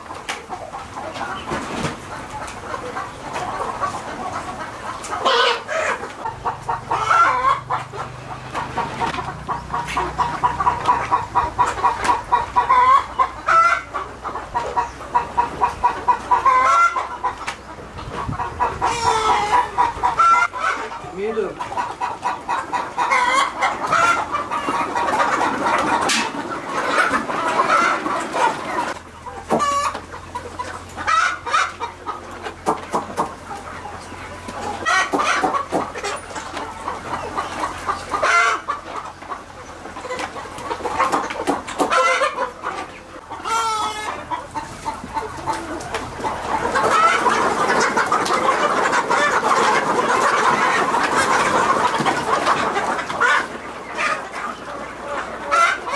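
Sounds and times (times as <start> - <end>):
flock of chickens clucking: 0.0 - 55.9.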